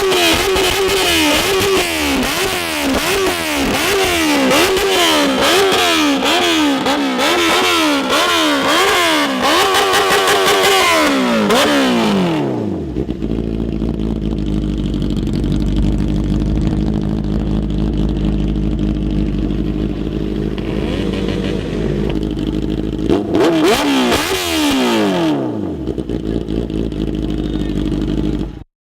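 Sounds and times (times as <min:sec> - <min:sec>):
motorcycle engine revving: 0:00.0 - 0:28.7
motorcycle engine idling: 0:00.1 - 0:28.6.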